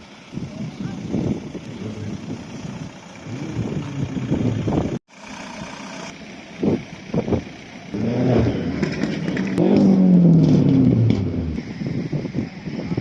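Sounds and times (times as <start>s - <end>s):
car engines revving: 0.0s - 12.9s.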